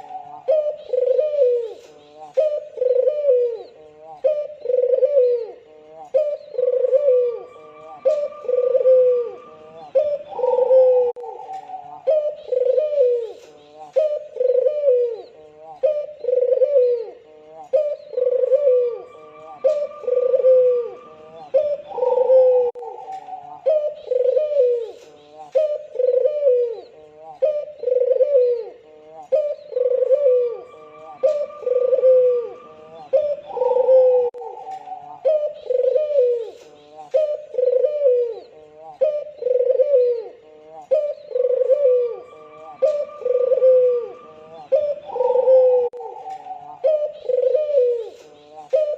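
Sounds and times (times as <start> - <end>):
dove cooing: 0.0 - 48.9.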